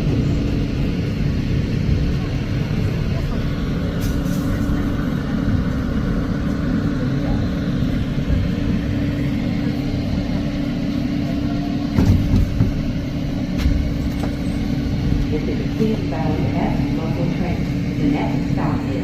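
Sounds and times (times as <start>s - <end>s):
subway car rumbling on rails: 0.0s - 19.0s.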